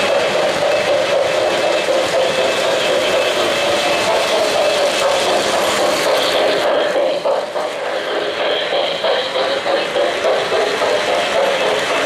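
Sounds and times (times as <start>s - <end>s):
model train rumbling on track: 0.0s - 12.0s.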